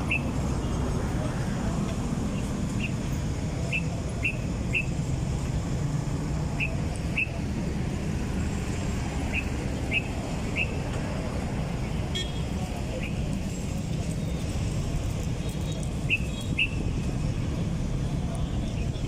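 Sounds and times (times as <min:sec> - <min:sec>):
wind and bicycle road rumble: 0:00.0 - 0:19.0.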